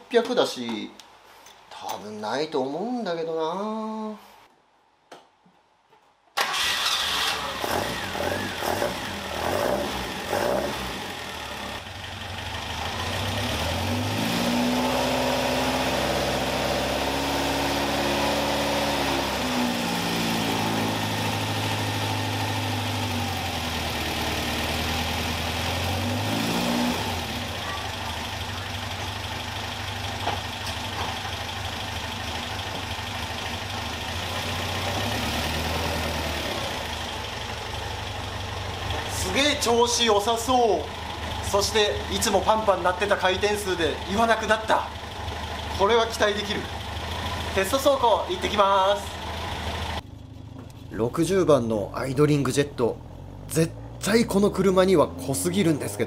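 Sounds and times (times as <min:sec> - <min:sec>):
car engine starting and revving: 0:06.4 - 0:56.0.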